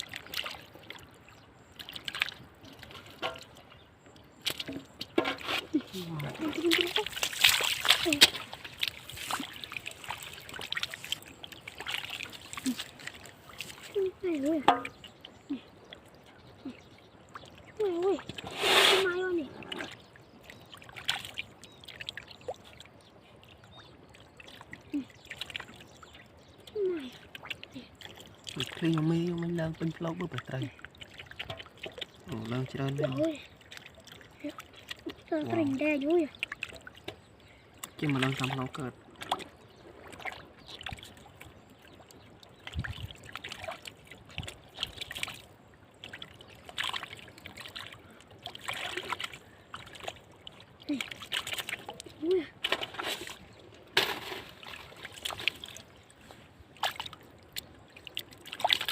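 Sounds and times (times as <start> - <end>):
floodwater splashing and trickling: 0.0 - 58.9
low steady water sound: 0.0 - 58.9.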